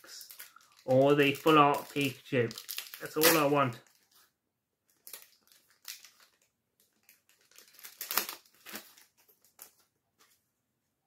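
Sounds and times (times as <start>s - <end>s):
cards and packaging rustling: 0.0s - 10.4s.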